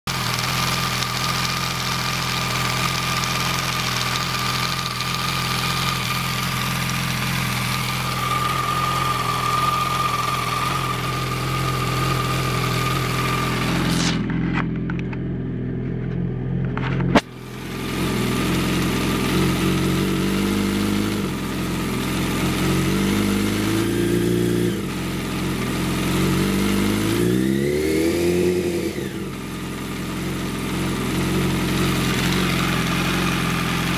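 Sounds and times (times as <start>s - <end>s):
engine rattling: 0.0s - 33.9s
motorcycle engine idling: 0.0s - 33.9s.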